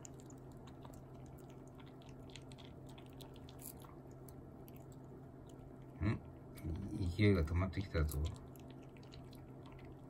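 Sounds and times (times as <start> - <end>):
puppy chewing dry kibble: 0.0 - 6.0, 7.7 - 10.0.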